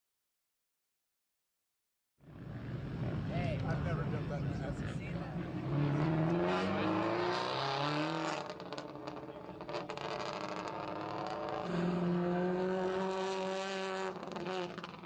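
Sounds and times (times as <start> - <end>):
rally car engine revving: 2.8 - 15.0.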